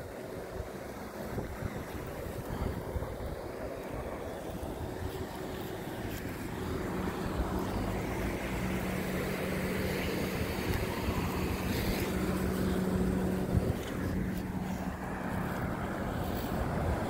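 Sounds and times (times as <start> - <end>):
cars passing on street: 0.0 - 17.0.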